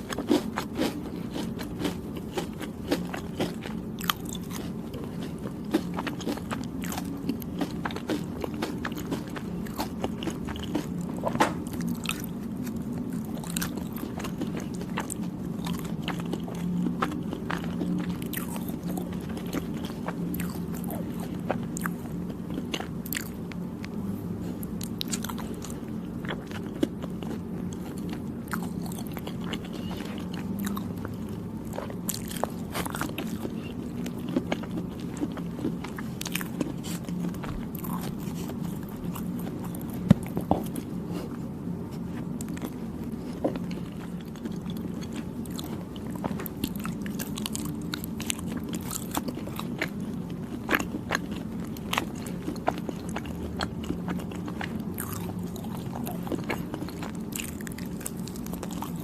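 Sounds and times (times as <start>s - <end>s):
steady low hum: 0.0s - 59.0s
wet chewing with mouth clicks: 0.0s - 59.0s.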